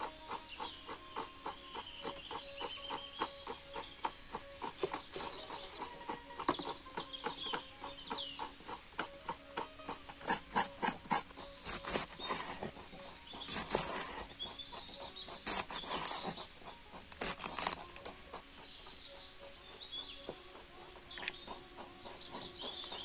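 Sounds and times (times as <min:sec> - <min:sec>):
knife chopping on wooden board: 0:00.0 - 0:18.4.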